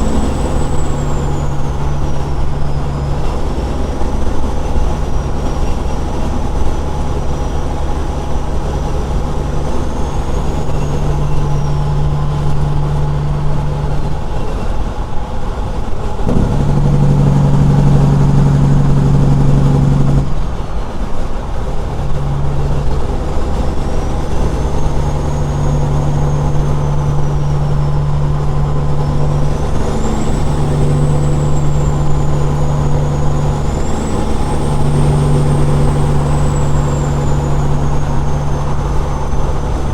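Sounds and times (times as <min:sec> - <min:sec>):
faint high whine: 0:00.0 - 0:20.8, 0:21.7 - 0:39.9
truck diesel engine droning: 0:00.0 - 0:39.9.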